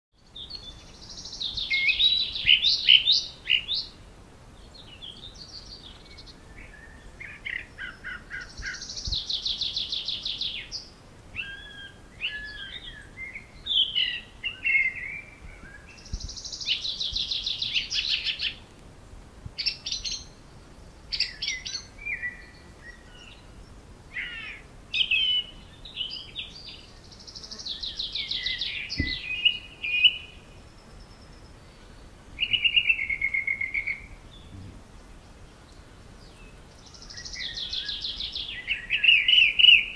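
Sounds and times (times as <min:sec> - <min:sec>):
songbirds singing trills: 0:00.2 - 0:18.8, 0:19.6 - 0:39.9.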